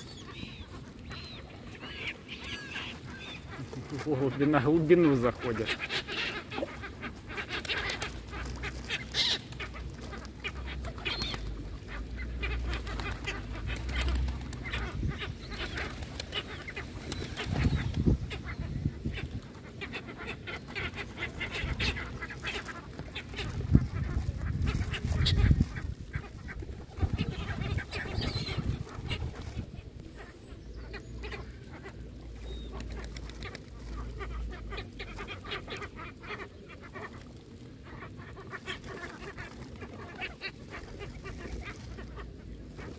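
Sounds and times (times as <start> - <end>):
gulls and ducks calling: 0.0 - 42.9.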